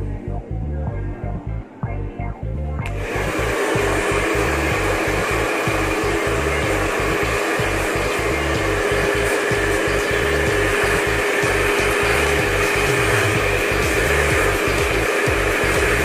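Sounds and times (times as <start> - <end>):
hair dryer running: 2.8 - 16.0.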